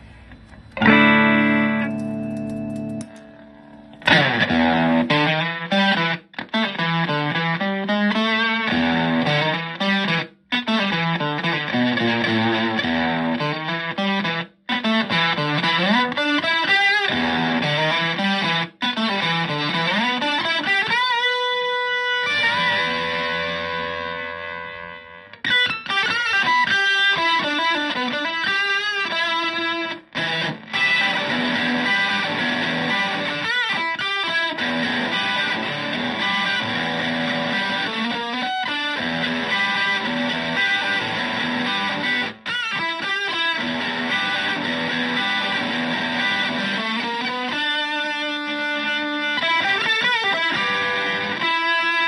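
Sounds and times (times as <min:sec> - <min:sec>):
fuzz electric guitar: 0:00.0 - 0:52.0.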